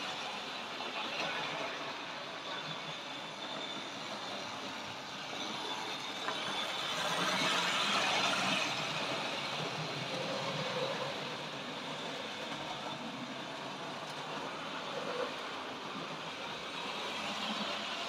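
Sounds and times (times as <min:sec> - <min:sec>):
model trains whirring: 0:00.0 - 0:18.0.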